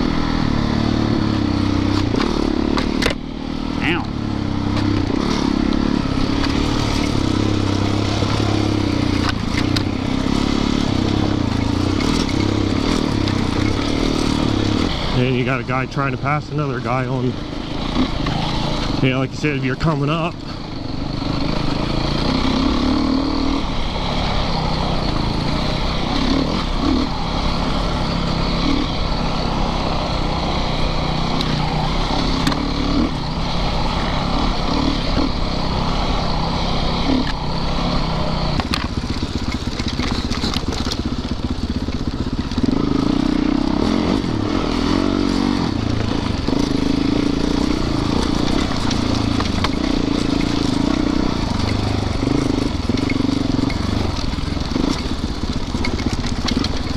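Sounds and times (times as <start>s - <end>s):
dirt bike engine running: 0.0s - 56.9s.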